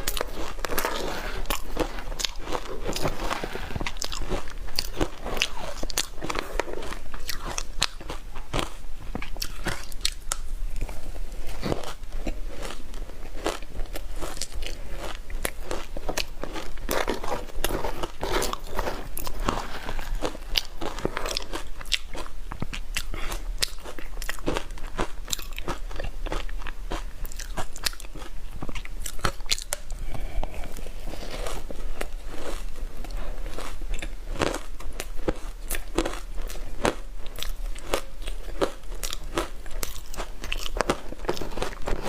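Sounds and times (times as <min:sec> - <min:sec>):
ice being chewed: 0:00.0 - 0:42.0.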